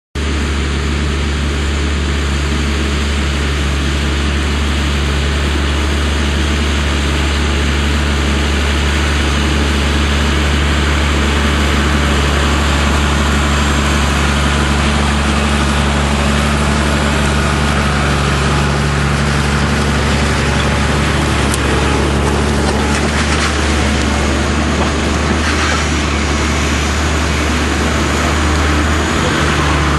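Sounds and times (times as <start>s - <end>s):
tractor engine running: 0.2s - 29.9s.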